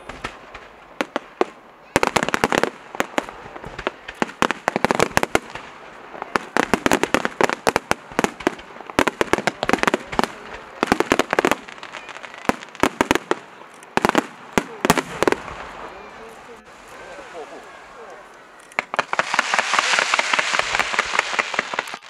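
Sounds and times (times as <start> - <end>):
fireworks bangs and cracks: 0.0 - 18.0, 18.8 - 22.0.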